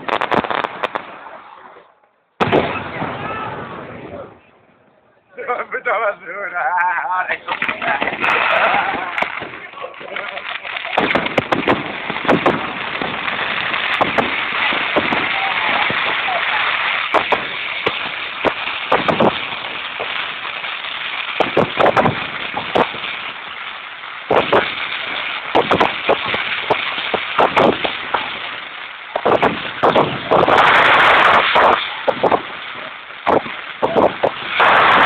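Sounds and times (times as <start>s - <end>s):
fireworks bangs and crackles: 0.0s - 4.5s, 6.6s - 35.0s.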